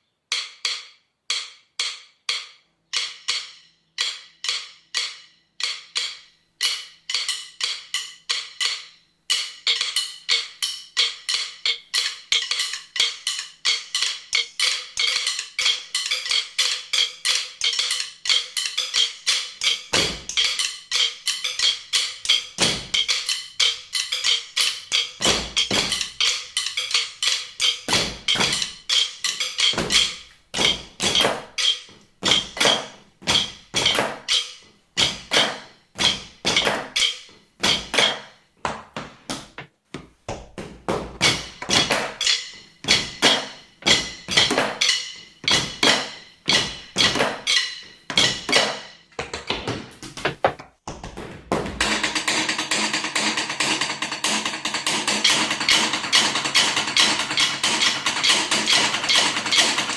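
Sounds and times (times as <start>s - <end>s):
fast drumstick rattle: 0.3s - 38.3s, 41.1s - 49.6s, 51.6s - 59.9s
drumsticks clicking and tapping: 0.3s - 59.9s.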